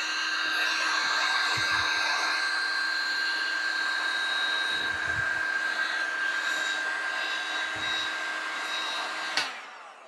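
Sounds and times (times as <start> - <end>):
heat gun blowing with whine: 0.0 - 10.0.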